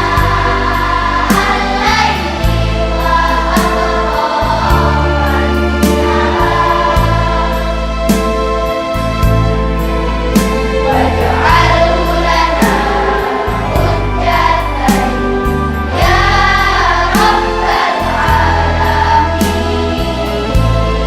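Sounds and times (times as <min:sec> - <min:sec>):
held bass notes: 0:00.0 - 0:21.0
voices singing slow melody: 0:00.0 - 0:21.0.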